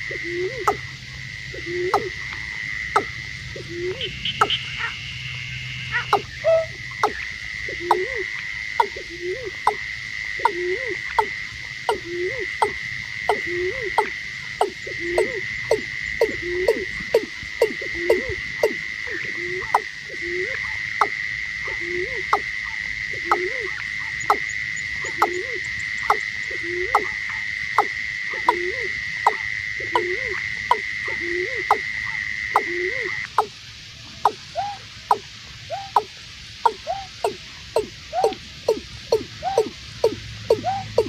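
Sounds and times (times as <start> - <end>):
bird calling hollow notes: 0.0 - 9.8, 10.4 - 33.5, 34.2 - 41.0.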